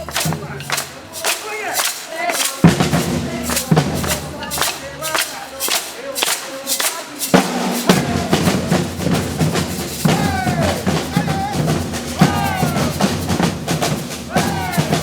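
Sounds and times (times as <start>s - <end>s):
percussion ensemble drumming: 0.0s - 15.0s.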